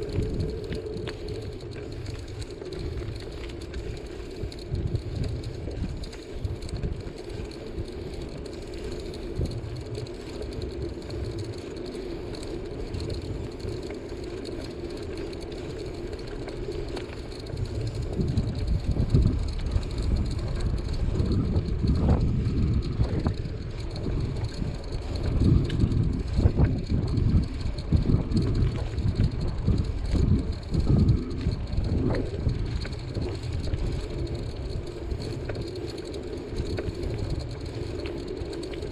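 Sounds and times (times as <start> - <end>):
bicycle road noise: 0.0 - 38.9
uneven low rumbling: 0.0 - 38.9
wind: 0.0 - 38.9.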